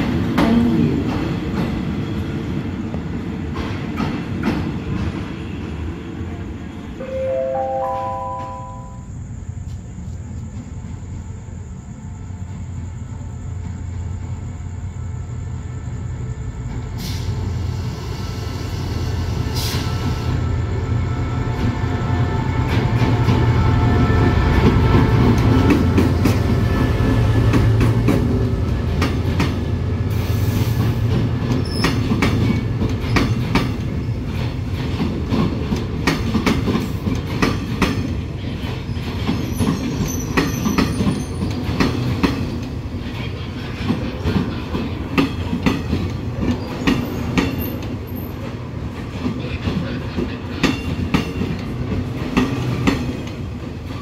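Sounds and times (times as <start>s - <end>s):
diesel locomotive engine rumbling: 0.0s - 54.0s.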